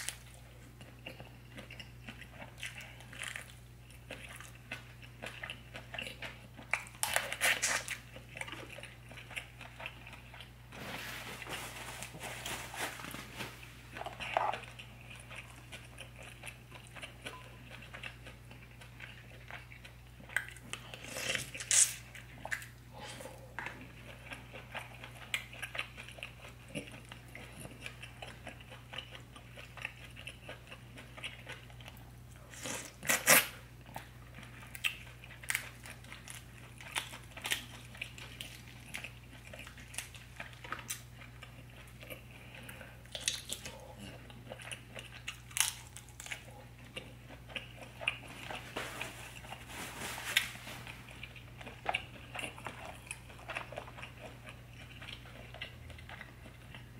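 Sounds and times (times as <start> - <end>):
chewing and wet mouth sounds: 0.0 - 10.8, 13.8 - 49.6, 50.4 - 56.9.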